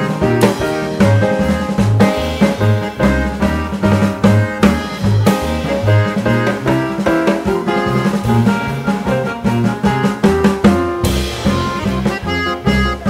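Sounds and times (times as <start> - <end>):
bass line: 0.0 - 13.0
drum kit beat: 0.0 - 13.0.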